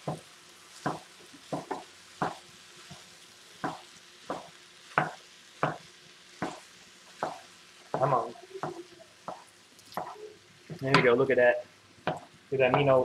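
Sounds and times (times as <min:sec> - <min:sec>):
spatula striking frying pan: 0:00.0 - 0:10.2, 0:12.0 - 0:12.9
faint sizzle: 0:00.0 - 0:13.0.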